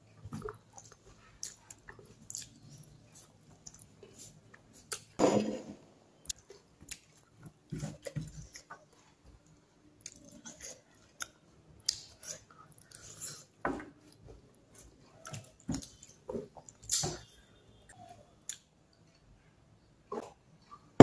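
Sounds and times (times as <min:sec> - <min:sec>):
person chewing with clicks and smacks: 0:00.2 - 0:05.2, 0:06.2 - 0:17.3, 0:17.9 - 0:19.3.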